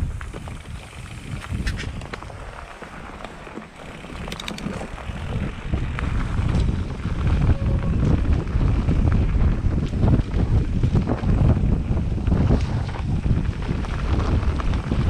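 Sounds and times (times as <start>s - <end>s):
bike rattling and rumbling: 0.0s - 15.0s
wind on microphone: 0.0s - 15.0s.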